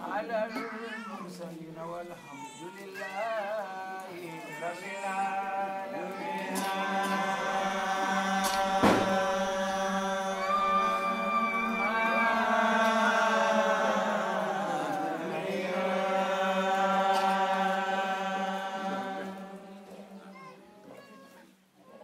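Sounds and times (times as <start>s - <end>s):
chanted singing: 2.9s - 20.8s.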